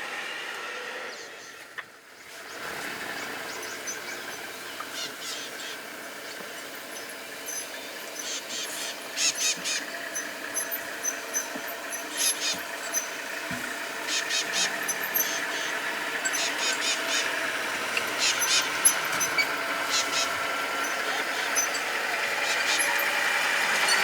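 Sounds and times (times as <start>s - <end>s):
steady bush hiss: 0.0s - 24.0s.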